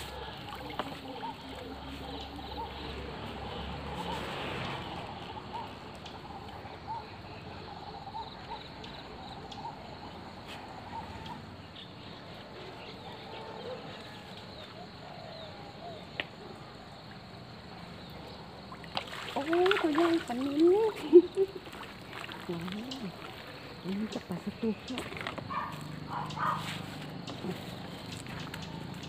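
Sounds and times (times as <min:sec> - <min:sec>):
faint chirping calls: 0:00.0 - 0:16.5, 0:17.7 - 0:29.0.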